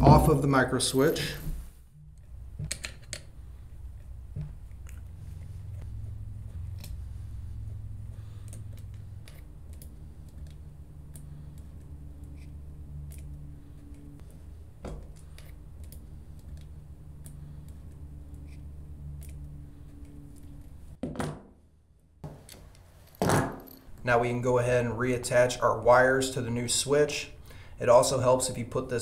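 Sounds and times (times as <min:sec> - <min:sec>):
steady low hum: 0:00.0 - 0:21.0, 0:21.6 - 0:29.0.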